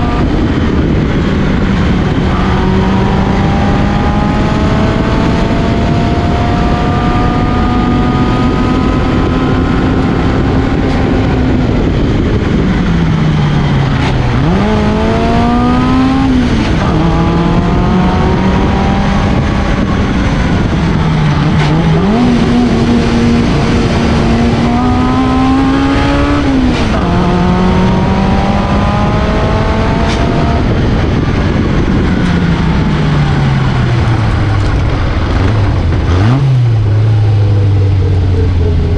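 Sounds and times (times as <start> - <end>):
race car engine revving: 0.0 - 38.9
wind and road noise: 0.0 - 38.9.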